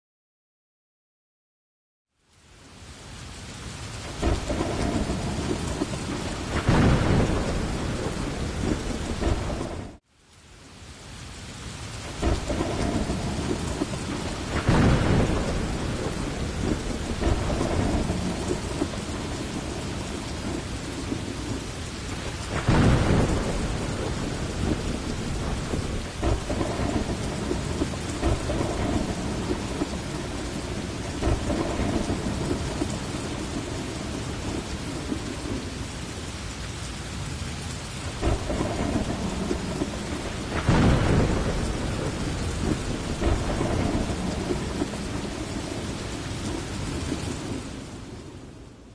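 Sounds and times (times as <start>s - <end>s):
heavy rain: 2.1s - 48.9s
low thunder rumbles: 3.9s - 10.0s, 12.0s - 36.5s, 37.2s - 48.8s
loud thunderclaps: 4.2s - 10.0s, 12.2s - 35.8s, 38.0s - 48.2s.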